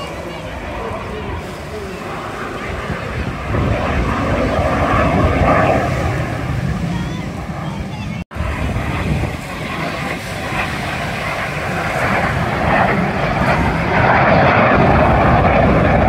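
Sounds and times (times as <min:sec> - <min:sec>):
small aircraft engine roar: 0:00.0 - 0:16.0.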